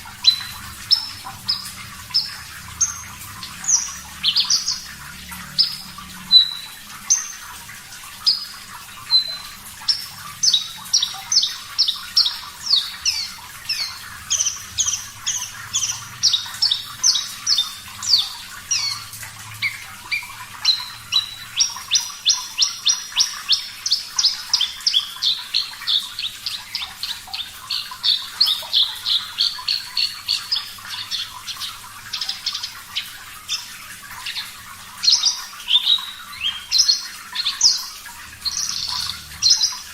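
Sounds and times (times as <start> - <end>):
lark chirping song: 0.0 - 7.6, 8.2 - 39.9.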